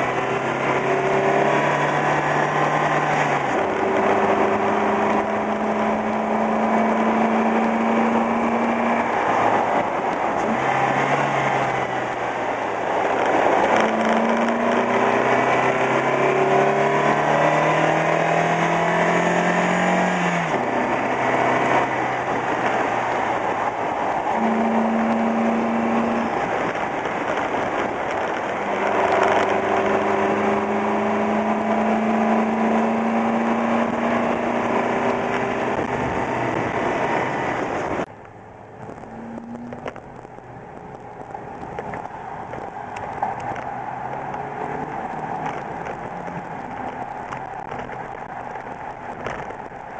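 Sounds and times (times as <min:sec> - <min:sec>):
car engine pulling under throttle: 0:00.0 - 0:49.9
wind and tyre noise: 0:00.0 - 0:49.9.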